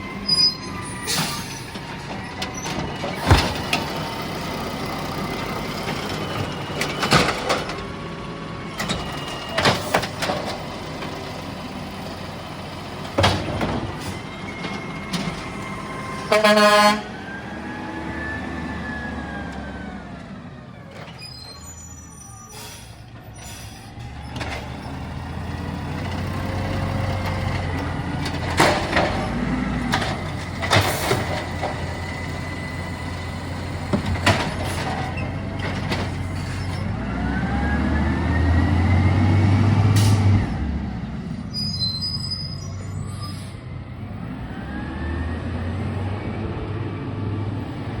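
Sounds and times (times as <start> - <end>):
garbage truck diesel engine revving: 0.0 - 20.9, 22.6 - 41.6.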